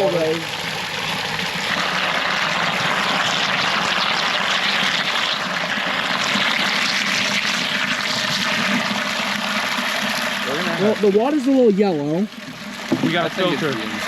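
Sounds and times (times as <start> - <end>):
water running into a jug: 0.0 - 14.0.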